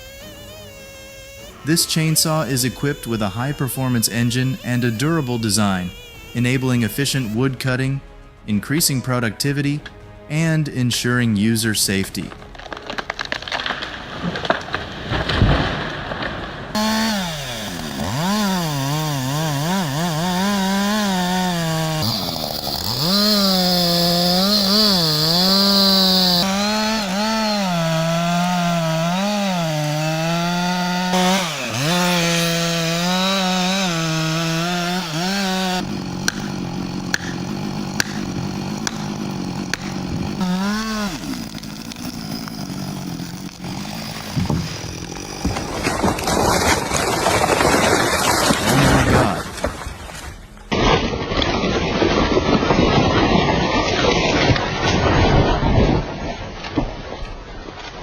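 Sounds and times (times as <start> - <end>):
chainsaw cutting wood: 0.0 - 7.8, 11.9 - 55.2
wood cracking: 0.0 - 8.4, 11.4 - 58.0.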